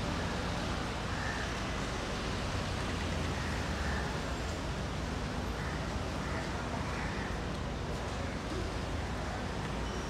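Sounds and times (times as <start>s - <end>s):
street ambience hiss: 0.0s - 10.0s.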